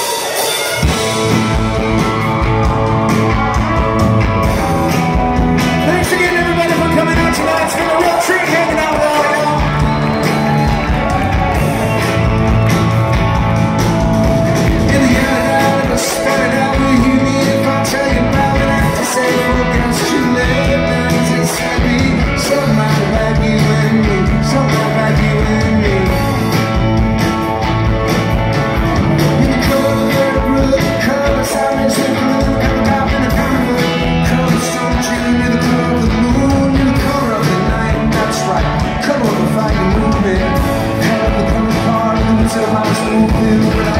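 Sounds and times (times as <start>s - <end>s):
drums: 0.0s - 43.9s
electric guitars: 0.0s - 43.9s
keyboard: 0.0s - 43.9s
man singing: 2.2s - 11.5s, 14.6s - 27.0s, 28.9s - 43.9s.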